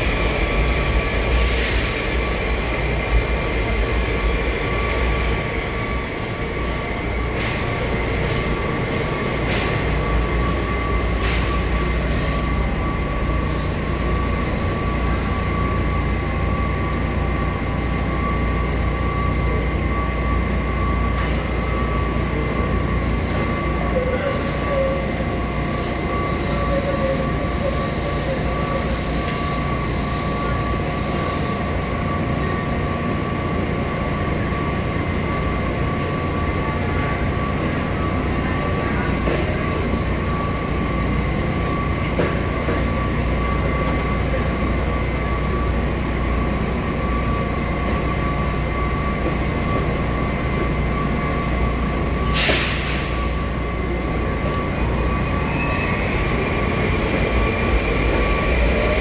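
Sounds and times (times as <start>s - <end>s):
low station rumble: 0.0s - 59.0s
train equipment whine: 0.0s - 59.0s.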